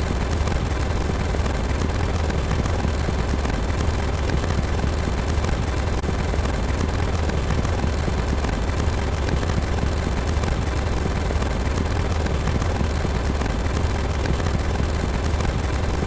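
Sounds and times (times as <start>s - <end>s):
loud steady rumbling: 0.0s - 16.0s.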